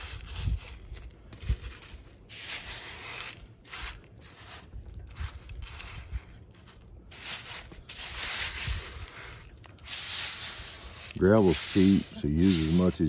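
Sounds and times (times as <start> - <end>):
gravel scraping on glass: 0.0 - 13.0.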